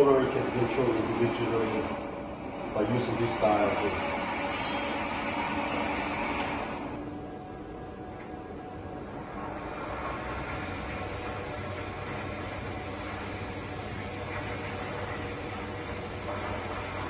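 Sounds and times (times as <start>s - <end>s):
high machine whine: 0.0s - 17.0s
machine motors humming: 0.0s - 17.0s.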